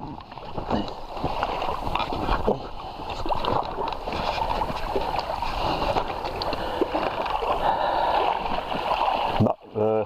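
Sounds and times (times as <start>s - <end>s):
river water rippling: 0.0s - 10.0s
person wading splashes: 0.1s - 9.6s.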